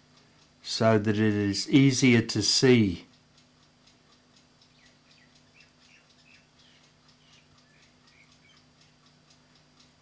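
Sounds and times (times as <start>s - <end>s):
low steady hum: 0.0s - 10.0s
mechanical clock ticking: 0.0s - 10.0s.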